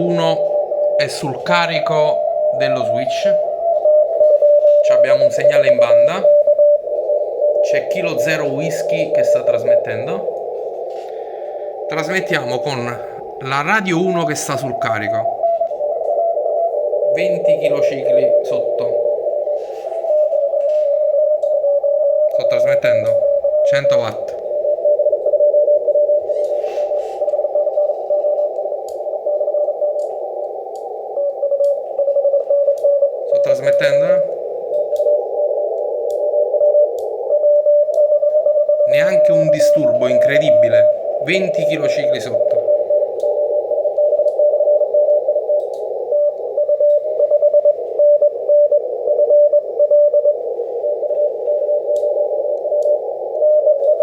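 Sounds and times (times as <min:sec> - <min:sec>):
morse code tone: 0:00.0 - 0:54.0
radio band hiss: 0:00.0 - 0:54.0.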